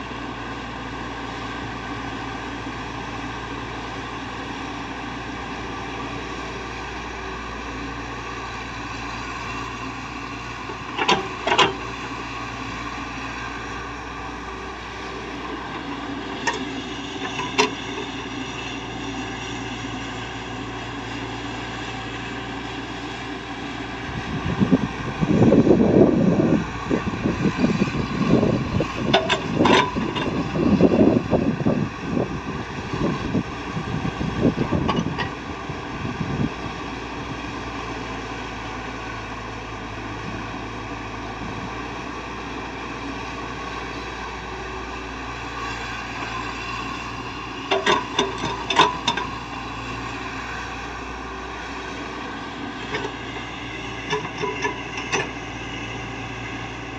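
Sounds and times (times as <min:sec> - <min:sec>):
heavy machinery engine drone: 0:00.0 - 0:56.9.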